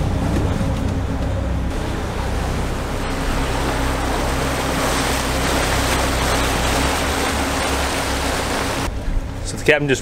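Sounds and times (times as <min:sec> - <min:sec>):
propeller wash churning water: 0:00.0 - 0:09.8
boat engine hum: 0:00.0 - 0:10.0.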